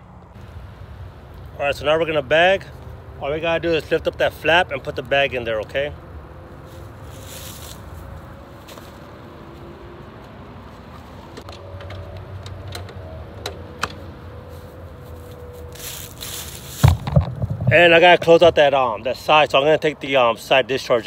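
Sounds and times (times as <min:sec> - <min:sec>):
low traffic hum: 0:00.0 - 0:21.0.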